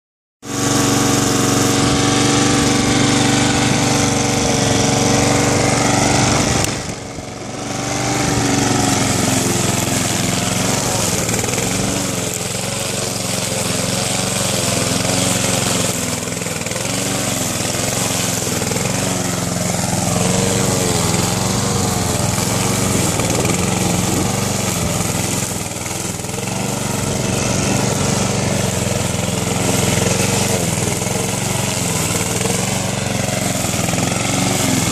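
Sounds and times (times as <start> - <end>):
lawn mower engine cutting grass: 0.4 - 34.9.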